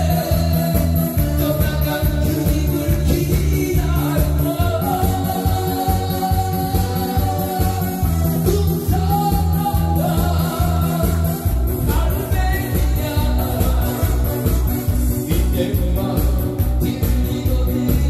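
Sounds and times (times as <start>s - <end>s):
backing music with pulsing bass: 0.0s - 18.0s
man singing into microphone: 0.0s - 18.0s.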